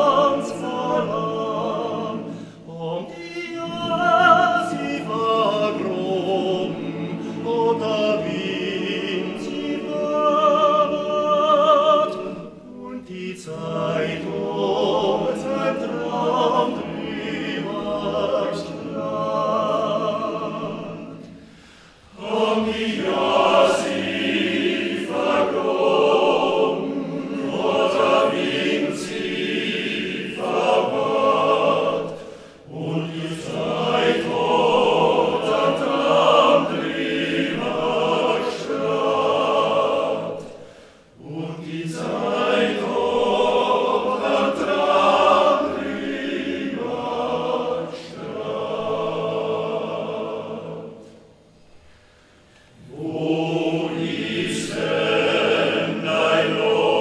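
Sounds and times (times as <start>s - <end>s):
male choir singing folk song: 0.0s - 57.0s.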